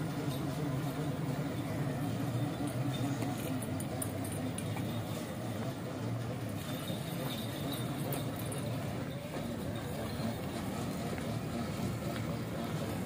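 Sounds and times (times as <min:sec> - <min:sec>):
mini truck driving slowly: 0:00.0 - 0:13.0.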